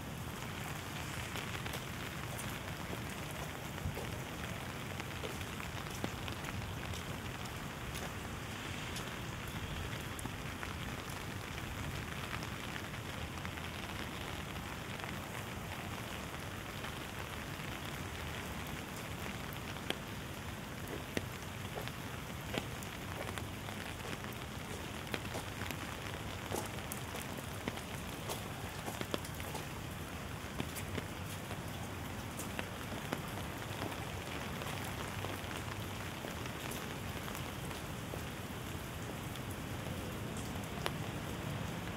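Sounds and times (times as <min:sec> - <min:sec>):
steady rain hissing: 0:00.0 - 0:41.9
raindrops ticking: 0:00.1 - 0:41.9.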